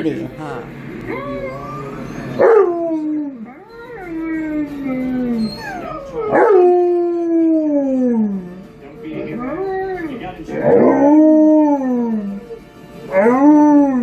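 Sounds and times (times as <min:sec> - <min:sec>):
dog howling: 0:01.0 - 0:08.6, 0:09.2 - 0:14.0.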